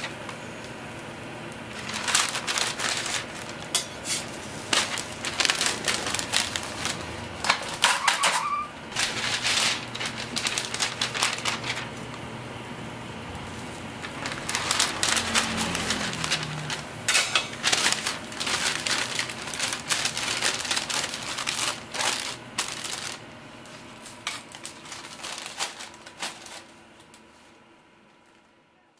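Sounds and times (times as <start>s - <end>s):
paper crinkling and rustling: 1.7s - 12.2s, 13.4s - 28.4s.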